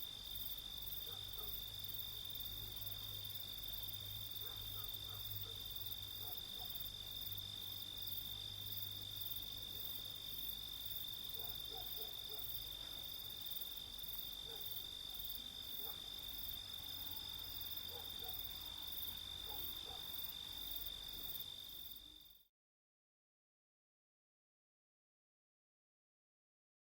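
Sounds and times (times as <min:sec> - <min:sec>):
crickets trilling: 0:00.0 - 0:22.3.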